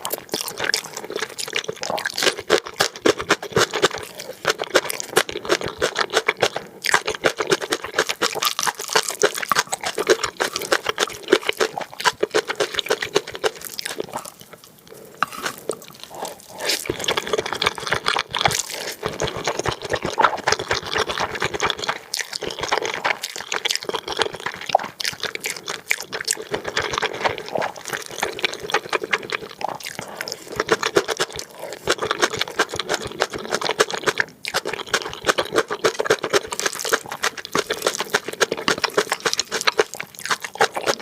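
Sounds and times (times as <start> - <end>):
wet chewing and slurping noodles: 0.0 - 41.0.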